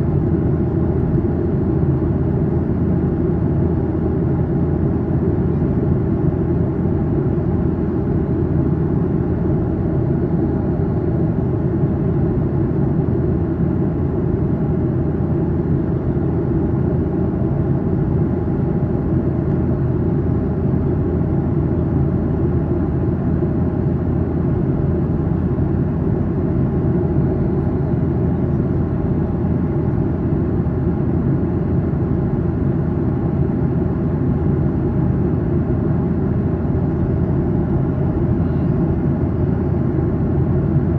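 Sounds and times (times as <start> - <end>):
airplane cabin engine drone: 0.0 - 40.9
faint steady hum: 0.0 - 40.9.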